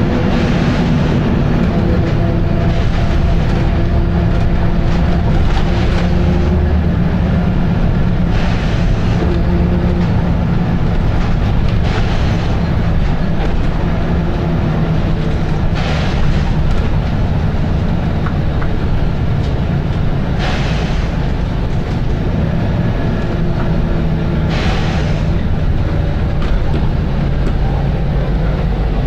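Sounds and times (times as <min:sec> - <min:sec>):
bus diesel engine drone: 0:00.0 - 0:29.0.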